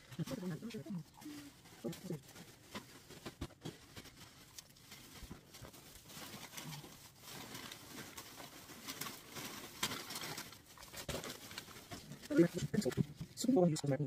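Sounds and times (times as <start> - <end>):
plastic balloon and paper rustling: 0.0 - 14.0.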